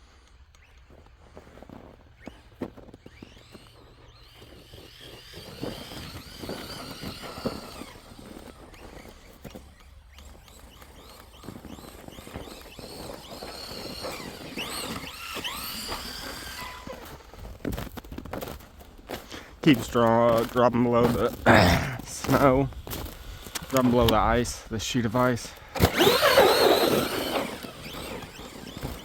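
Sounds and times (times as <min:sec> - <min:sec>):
electric toy truck motor whining: 0:00.3 - 0:18.5, 0:22.0 - 0:29.0.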